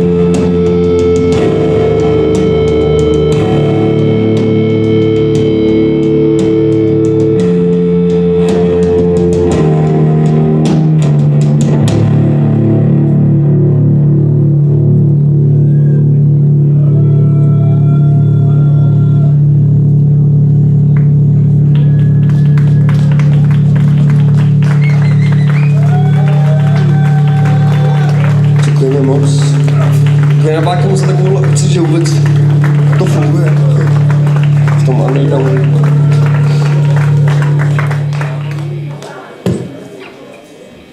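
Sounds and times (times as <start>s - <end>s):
low droning guitar notes: 0.0s - 39.0s.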